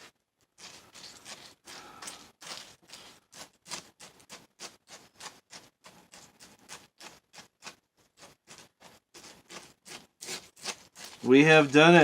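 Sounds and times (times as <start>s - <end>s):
cereal crunching: 0.0s - 12.0s.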